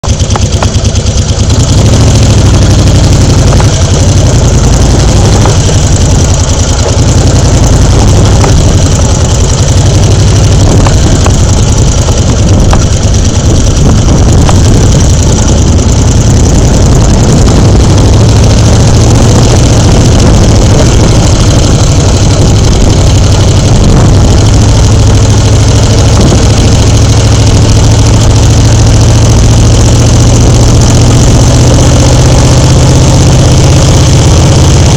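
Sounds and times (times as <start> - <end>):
engine droning loudly: 0.0 - 34.9.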